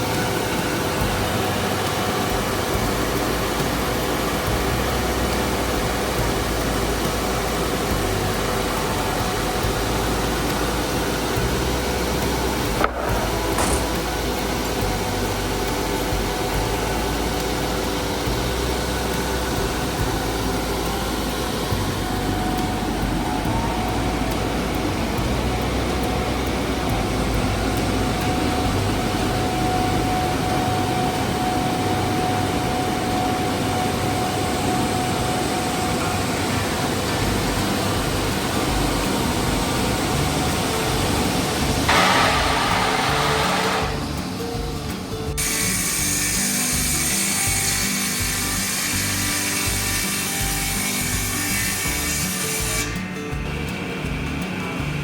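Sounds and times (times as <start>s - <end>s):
woodworking machine motor running: 0.0s - 55.0s.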